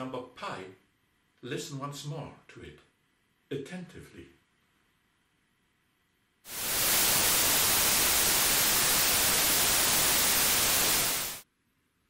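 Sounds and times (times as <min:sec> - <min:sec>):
steady white noise hiss: 0:00.0 - 0:12.0.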